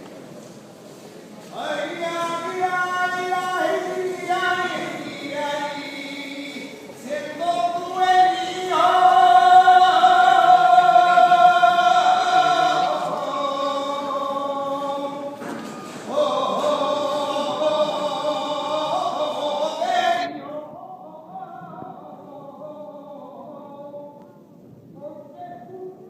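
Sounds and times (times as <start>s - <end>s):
person singing unaccompanied: 1.5s - 26.0s.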